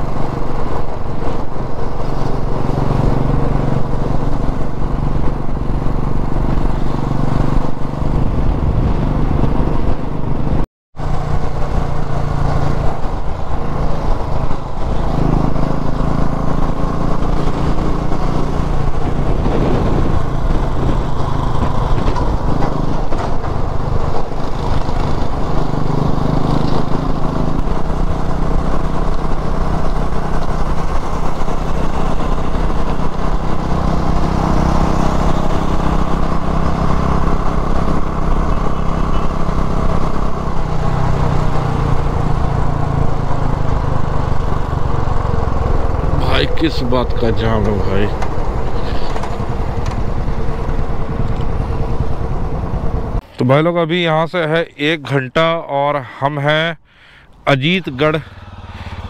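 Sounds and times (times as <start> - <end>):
motorcycle engine cruising: 0.0 - 53.4, 56.8 - 59.0
road noise: 0.0 - 59.0.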